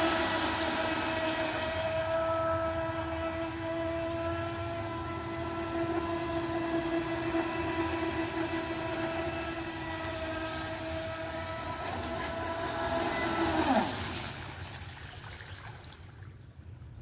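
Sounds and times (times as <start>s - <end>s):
model boat motor whining: 0.0s - 14.7s.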